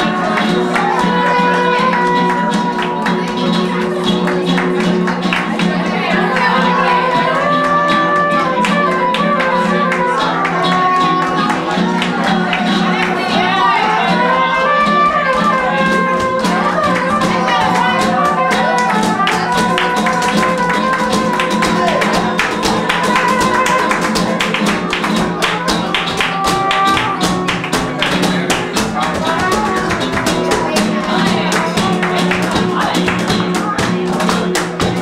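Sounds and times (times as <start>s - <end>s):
nylon-string guitar strumming: 0.0s - 35.0s
rhythmic hand-clapping: 0.0s - 35.0s.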